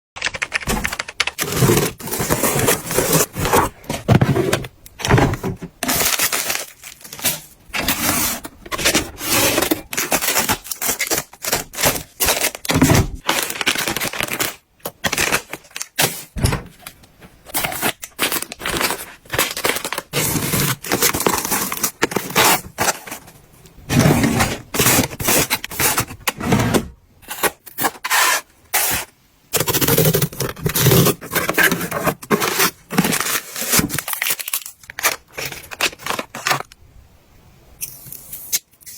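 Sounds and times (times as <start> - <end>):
food packaging being handled: 0.2 - 36.8.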